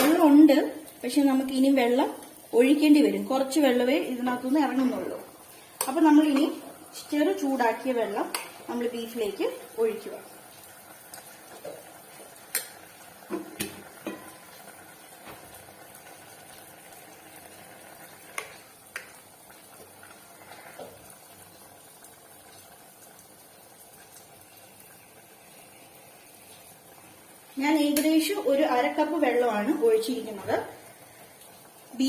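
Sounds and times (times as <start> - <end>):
meat bubbling in a pot: 0.1 - 32.0.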